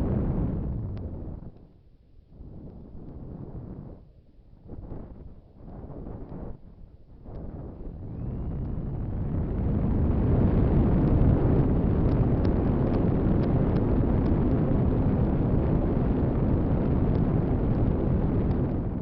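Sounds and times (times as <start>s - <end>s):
wind buffeting microphone: 0.0s - 1.6s, 4.6s - 19.0s.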